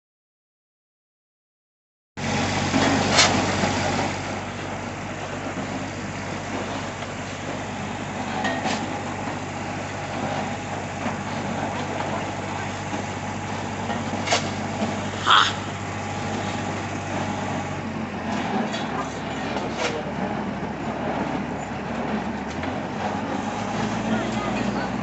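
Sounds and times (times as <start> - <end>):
engine idling: 2.2 - 25.0.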